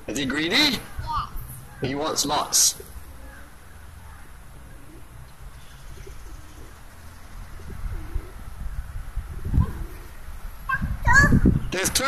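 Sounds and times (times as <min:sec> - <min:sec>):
pigeons cooing: 0:00.8 - 0:11.0.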